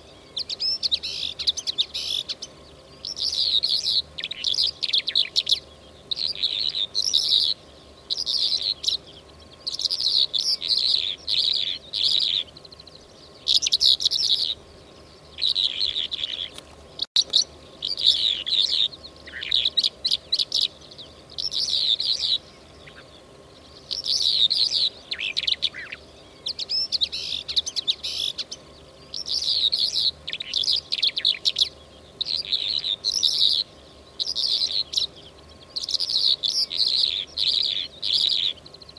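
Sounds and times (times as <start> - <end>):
lark song chirping and trilling: 0.0 - 38.9.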